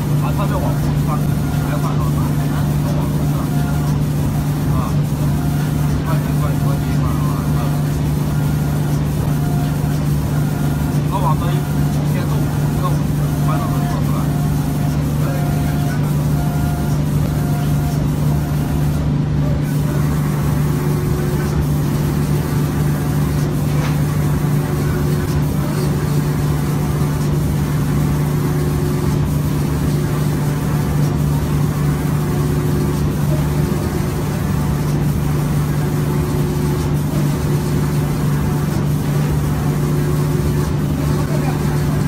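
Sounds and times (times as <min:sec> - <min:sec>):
spraying machine humming: 0:00.0 - 0:42.0.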